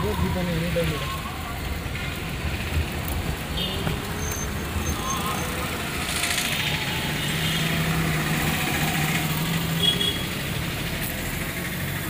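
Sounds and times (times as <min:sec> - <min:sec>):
car engine hum: 0:00.0 - 0:12.0
road traffic: 0:00.0 - 0:12.0.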